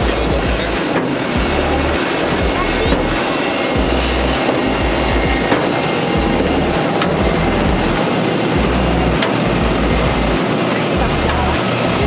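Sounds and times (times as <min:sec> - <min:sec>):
jet aircraft rushing noise: 0:00.0 - 0:12.0.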